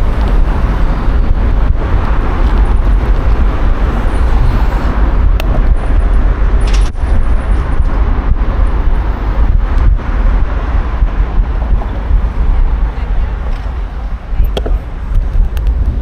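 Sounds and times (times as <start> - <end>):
road and traffic rumble: 0.0 - 16.0.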